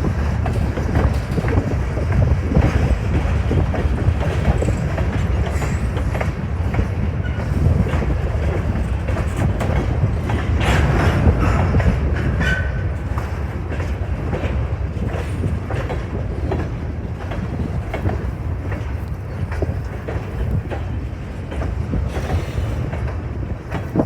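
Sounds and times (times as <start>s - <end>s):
low train rumble: 0.0s - 24.0s
train wheels clicking over rail joints: 0.0s - 24.0s.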